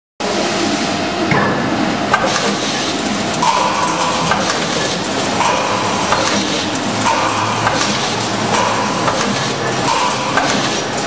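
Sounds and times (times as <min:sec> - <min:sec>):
machine clattering: 0:02.1 - 0:11.0
sharp machine clank: 0:02.1 - 0:11.0.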